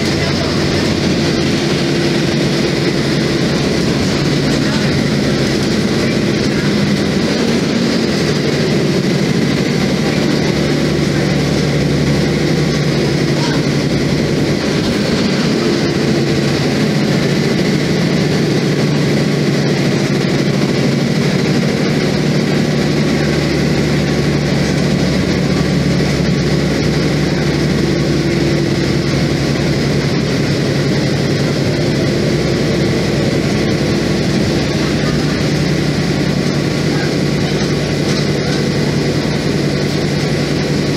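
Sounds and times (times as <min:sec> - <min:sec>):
bus diesel engine drone: 0:00.0 - 0:40.9
road and body noise: 0:00.0 - 0:40.9.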